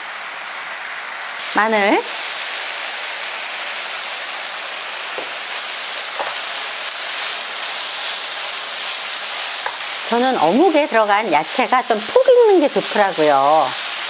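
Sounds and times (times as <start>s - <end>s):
food sizzling in frying pan: 0.0s - 14.0s.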